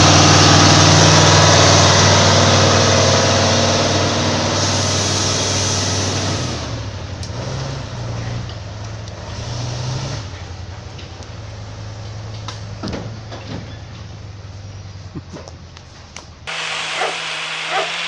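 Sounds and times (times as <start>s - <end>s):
heavy machine engine running: 0.0s - 15.3s, 15.9s - 18.0s.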